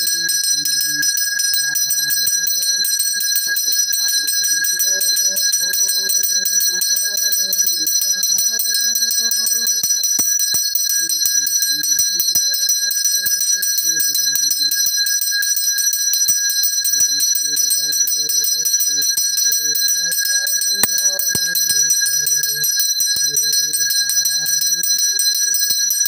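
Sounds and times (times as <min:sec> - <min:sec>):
man chanting: 0:00.0 - 0:10.2, 0:10.8 - 0:15.5, 0:16.8 - 0:25.9
hand bell ringing rapidly: 0:00.0 - 0:26.0.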